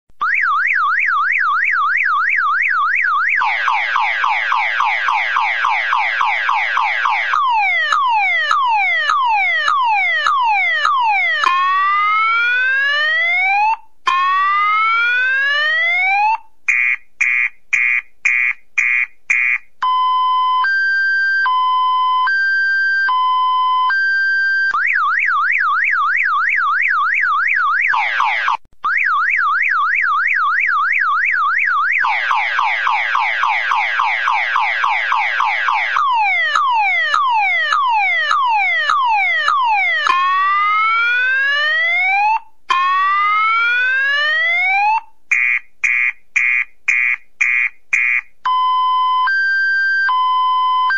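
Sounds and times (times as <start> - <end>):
car alarm siren: 0.2 - 50.9.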